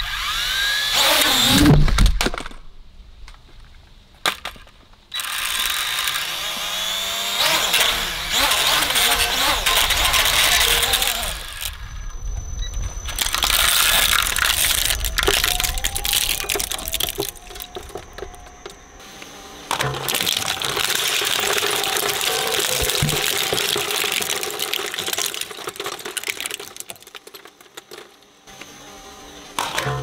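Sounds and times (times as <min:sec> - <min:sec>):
shredder crunching plastic: 0:00.0 - 0:02.5, 0:05.1 - 0:12.0, 0:13.0 - 0:18.8, 0:19.7 - 0:28.7
shredder blades running empty: 0:05.1 - 0:30.0.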